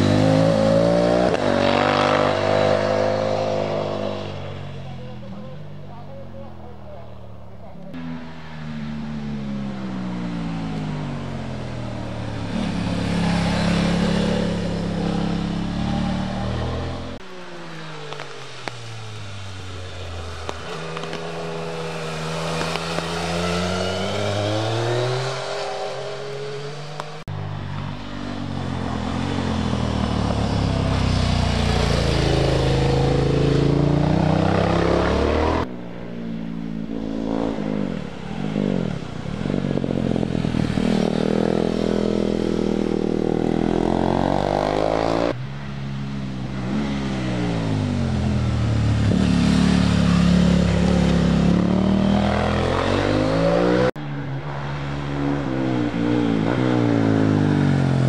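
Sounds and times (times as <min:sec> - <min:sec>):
motorcycles revving past: 0:00.0 - 0:05.4, 0:07.9 - 0:17.2, 0:17.8 - 0:58.0.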